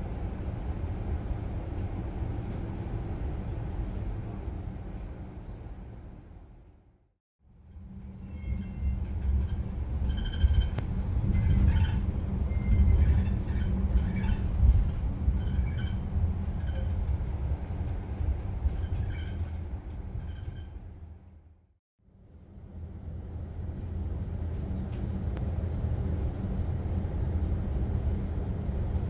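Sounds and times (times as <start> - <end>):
train wheels rumbling on rails: 0.0 - 6.6, 7.6 - 21.5, 23.5 - 29.0.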